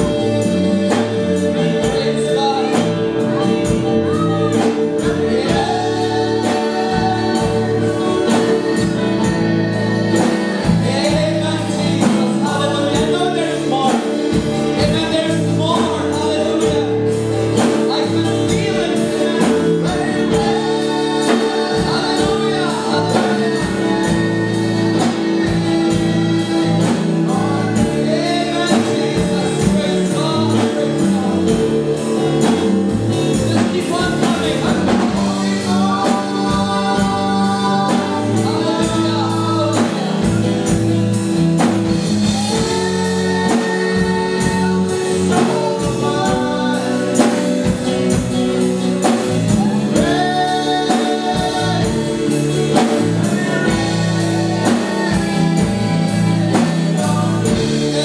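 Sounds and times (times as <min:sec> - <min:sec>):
drum kit beat: 0:00.0 - 0:58.0
guitars and bass: 0:00.0 - 0:58.0
voices singing: 0:00.0 - 0:58.0.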